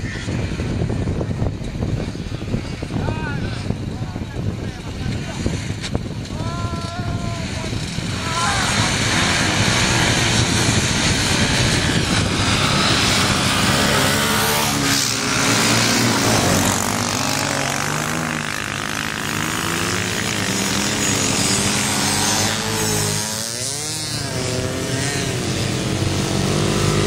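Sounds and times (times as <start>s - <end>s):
motorcycles revving and accelerating: 0.0s - 27.0s.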